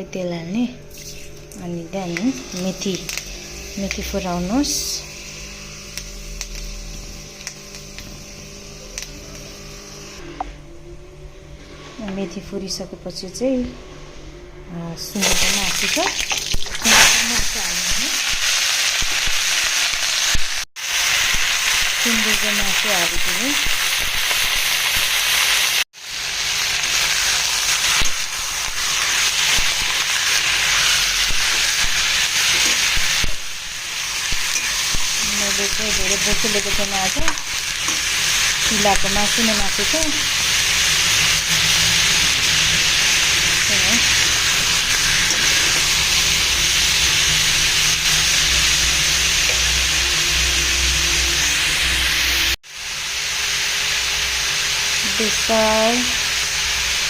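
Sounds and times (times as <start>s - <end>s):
meat sizzling in hot oil: 0.9s - 1.4s, 2.2s - 4.9s, 5.9s - 9.0s, 15.2s - 57.0s.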